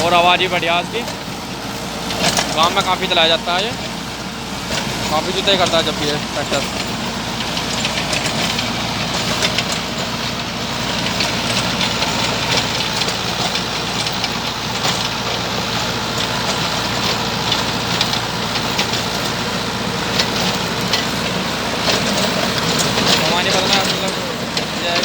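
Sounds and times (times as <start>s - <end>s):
tractor diesel engine running: 0.0s - 25.0s
sharp clicks and clatter: 2.1s - 4.0s, 4.7s - 25.0s.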